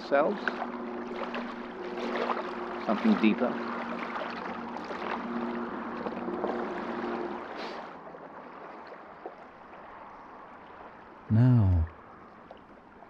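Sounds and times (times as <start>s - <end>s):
water lapping at shore: 0.0s - 11.2s.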